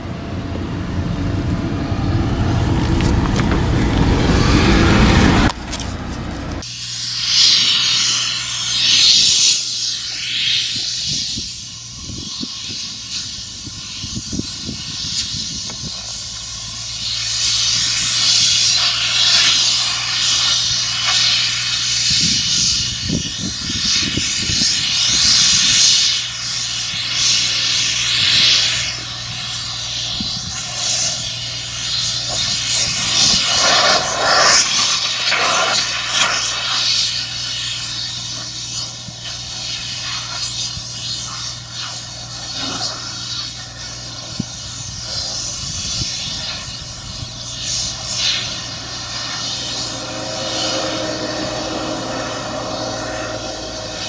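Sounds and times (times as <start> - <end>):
low mechanical hum: 0.0 - 54.0
high-pressure jet hissing: 1.2 - 54.0.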